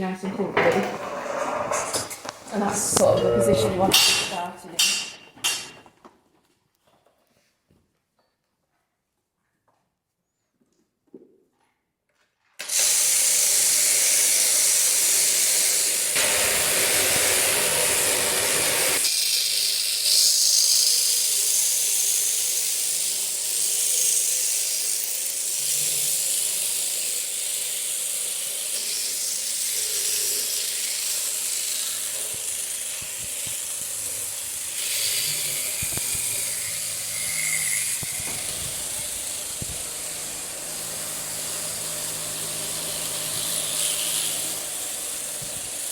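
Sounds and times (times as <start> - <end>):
electric shears buzzing: 0.0 - 5.7, 12.6 - 45.9.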